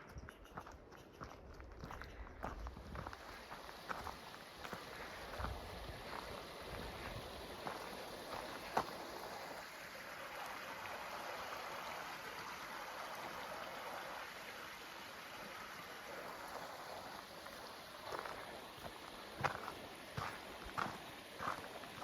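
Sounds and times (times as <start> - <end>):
stream rushing: 2.9 - 22.0.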